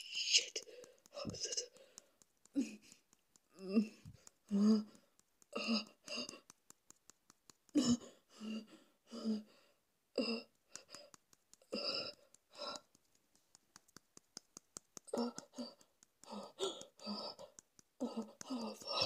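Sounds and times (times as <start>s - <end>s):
faint sharp clicks: 0.0s - 8.7s, 10.4s - 19.0s.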